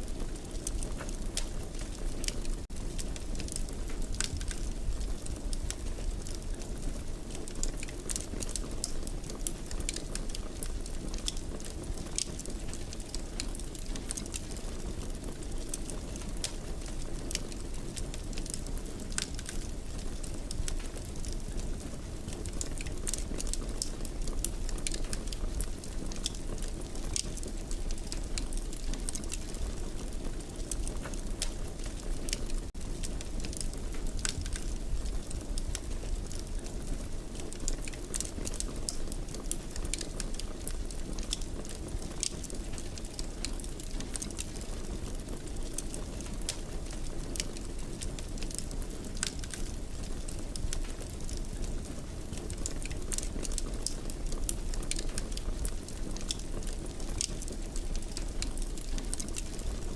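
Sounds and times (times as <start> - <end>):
fire crackles and pops: 0.0 - 59.9
fire low rumble: 0.1 - 59.9.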